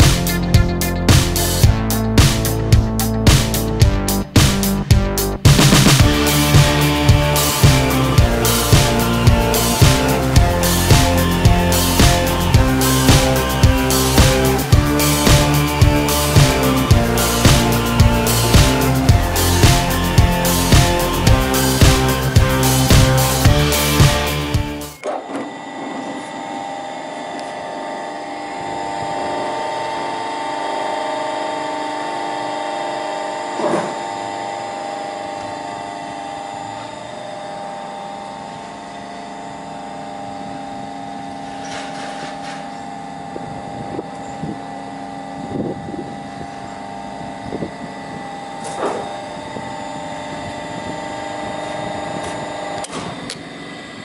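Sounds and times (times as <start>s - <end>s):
belt sander humming: 0.0s - 54.0s.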